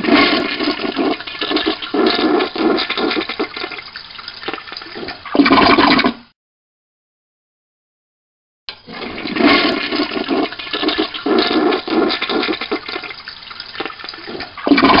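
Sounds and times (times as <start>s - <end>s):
running sloshing water: 0.0s - 6.1s, 8.8s - 15.0s.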